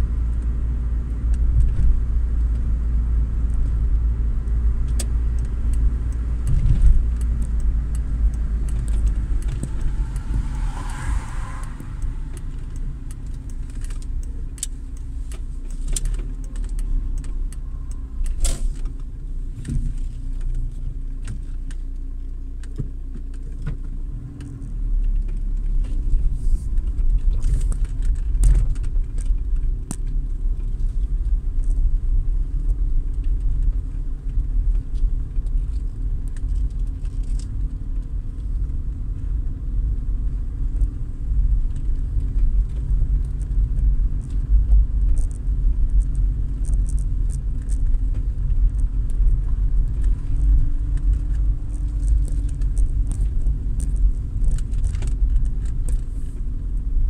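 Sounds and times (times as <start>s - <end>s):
car engine and tyre rumble: 0.0s - 57.0s
small clicks and rattles: 3.4s - 11.2s, 12.3s - 39.6s, 40.2s - 57.0s.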